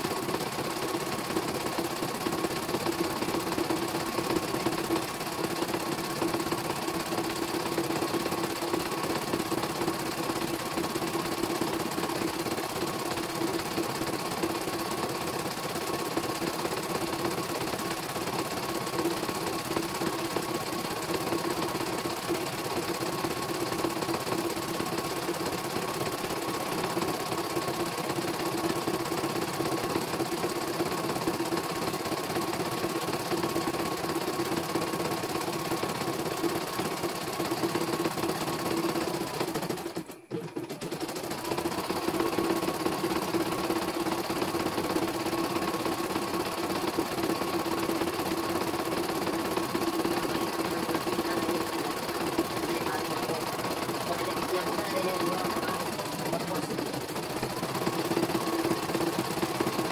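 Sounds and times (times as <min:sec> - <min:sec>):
machine motor hum: 0:00.0 - 0:59.9.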